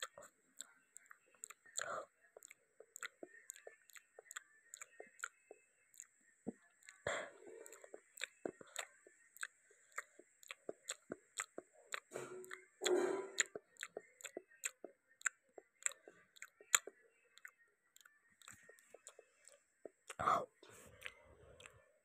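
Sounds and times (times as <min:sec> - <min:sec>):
person chewing food: 0:00.0 - 0:21.8.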